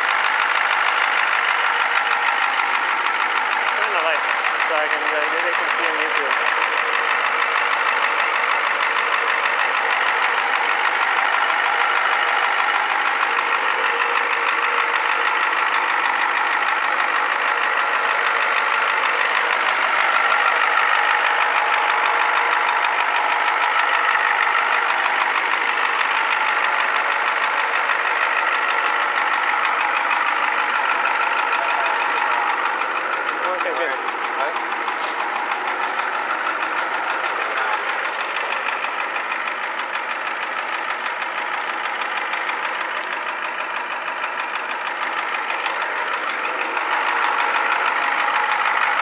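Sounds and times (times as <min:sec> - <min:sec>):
diesel engine idling with clatter: 0:00.0 - 0:49.0.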